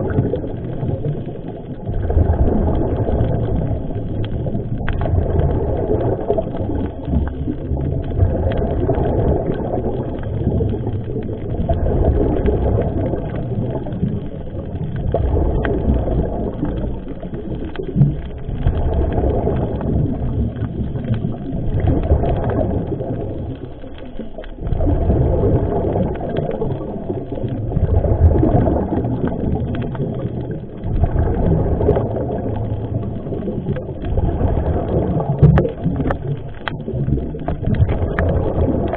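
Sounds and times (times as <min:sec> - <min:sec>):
underwater diver breathing bubbles: 0:00.0 - 0:38.9.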